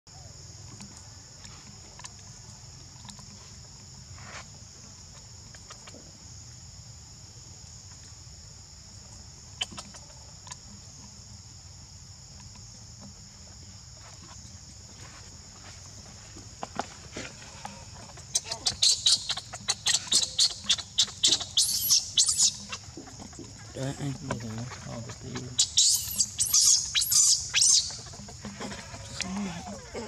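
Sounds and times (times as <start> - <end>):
insect chorus drone: 0.1 - 30.0.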